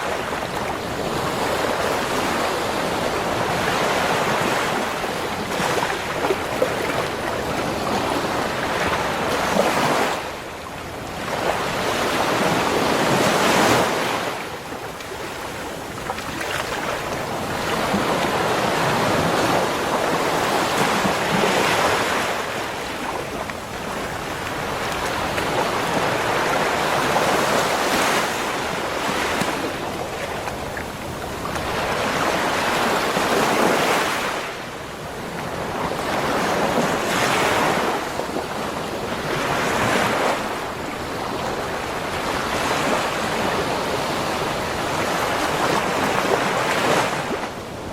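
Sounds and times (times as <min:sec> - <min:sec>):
ocean surf breaking on beach: 0:00.0 - 0:47.9.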